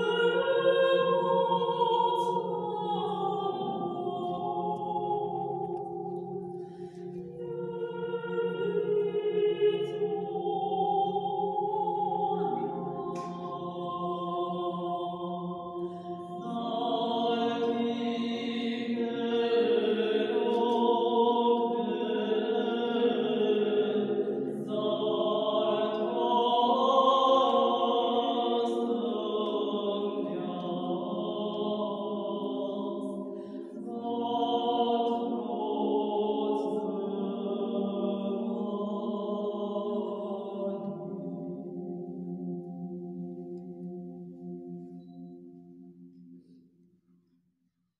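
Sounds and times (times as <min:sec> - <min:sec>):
women singing chant-like lines: 0:00.0 - 0:06.6, 0:07.2 - 0:41.6.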